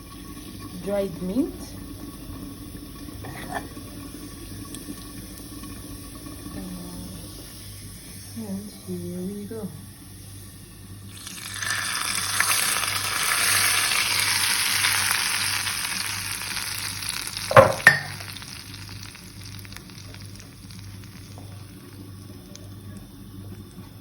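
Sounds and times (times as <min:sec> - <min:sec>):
spices sizzling in hot fat: 0:00.0 - 0:24.0.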